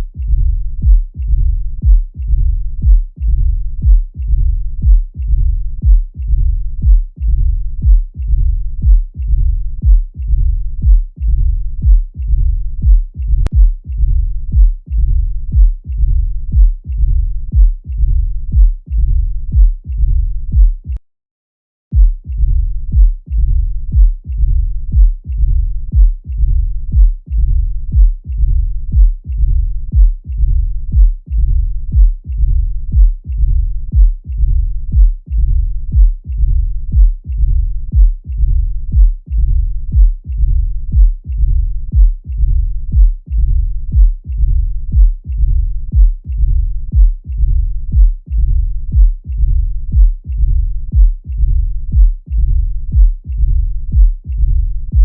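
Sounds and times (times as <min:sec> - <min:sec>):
low heart murmur rumble: 0:00.0 - 0:21.0, 0:22.0 - 0:55.0
low heartbeats: 0:00.0 - 0:21.0, 0:21.9 - 0:55.0.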